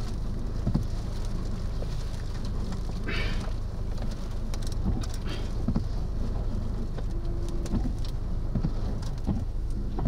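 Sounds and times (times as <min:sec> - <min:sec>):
dirt ticking on vehicle: 0:00.0 - 0:10.0
wind rumbling against vehicle: 0:00.0 - 0:10.0.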